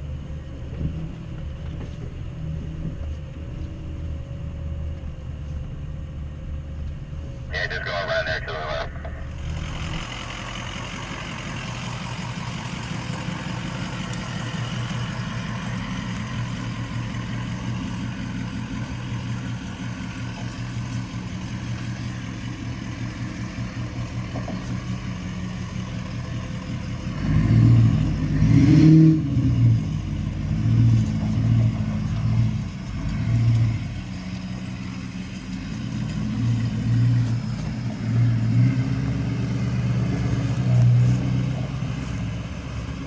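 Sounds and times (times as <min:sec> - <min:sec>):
truck engine running: 0:00.0 - 0:43.0.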